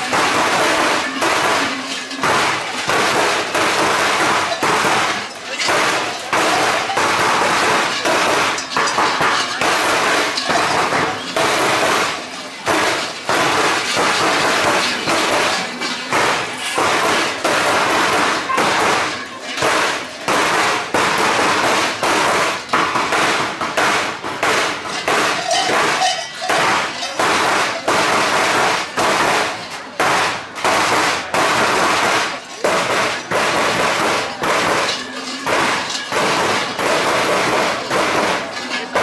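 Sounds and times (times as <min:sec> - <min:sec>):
large bells clanging: 0:00.0 - 0:23.2, 0:24.6 - 0:30.0, 0:31.8 - 0:39.0.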